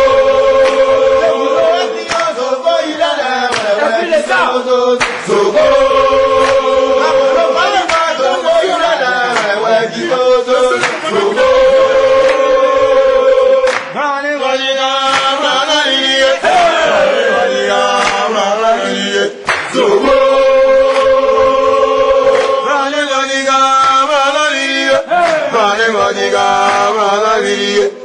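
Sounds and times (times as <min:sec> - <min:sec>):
choir singing long notes: 0:00.0 - 0:28.0.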